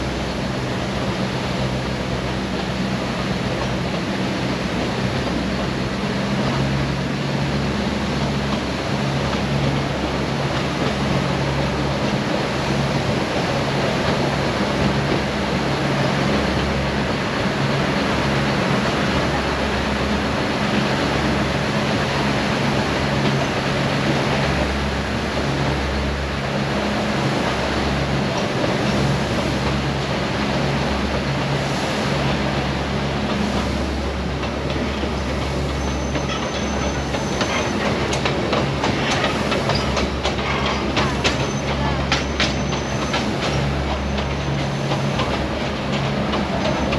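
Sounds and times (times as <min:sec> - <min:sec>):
train wheels rumbling: 0:00.0 - 0:46.9.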